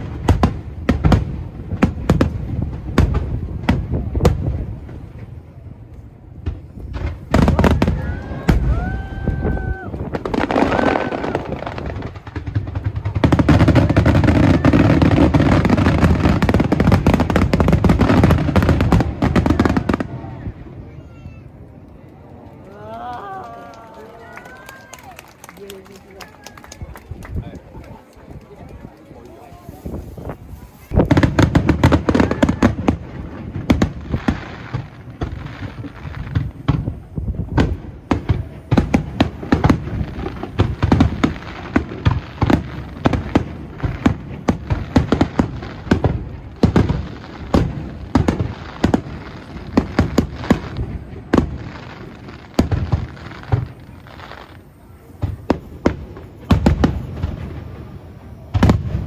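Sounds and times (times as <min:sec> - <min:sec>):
fireworks booms and cracks: 0:00.0 - 0:22.4, 0:23.2 - 0:59.0.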